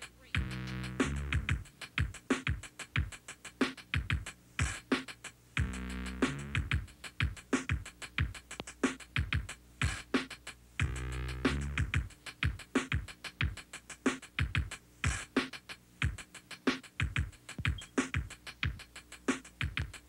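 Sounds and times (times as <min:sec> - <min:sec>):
hip-hop drum beat: 0:00.0 - 0:20.0.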